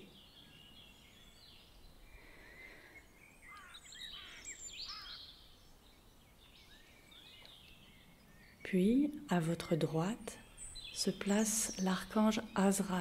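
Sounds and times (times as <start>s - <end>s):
faint birdsong chirps and trills: 0.0s - 13.0s
soft background hiss: 0.0s - 13.0s.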